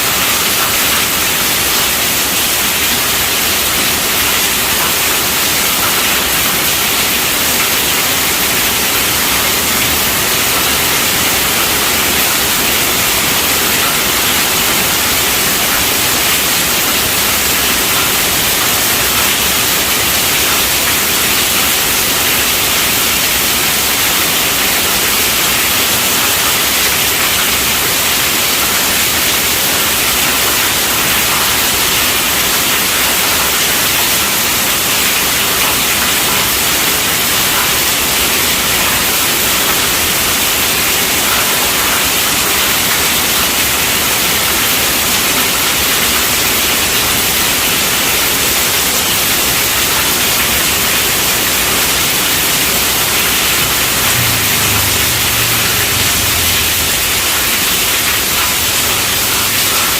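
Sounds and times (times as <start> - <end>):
heavy rain on a tent roof: 0.0 - 59.9.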